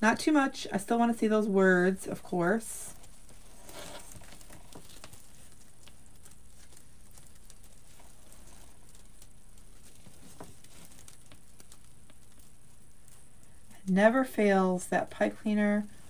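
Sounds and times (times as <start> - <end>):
ribbon crinkling and tapping: 0.9 - 14.1.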